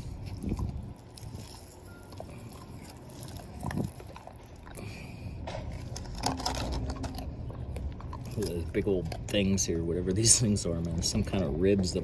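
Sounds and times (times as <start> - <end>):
dog chewing bones: 0.0 - 11.1
low steady rumble: 0.0 - 12.0.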